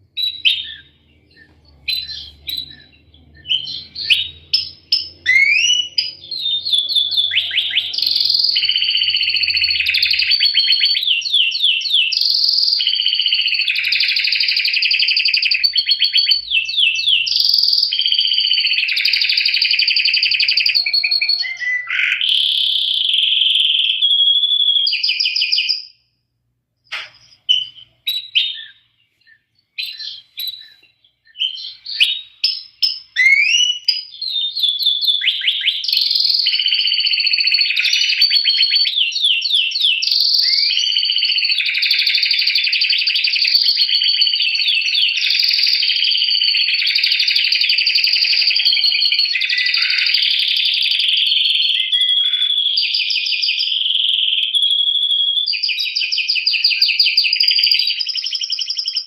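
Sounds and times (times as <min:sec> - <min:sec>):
canary singing trills: 0:00.0 - 0:25.9, 0:26.9 - 0:59.0.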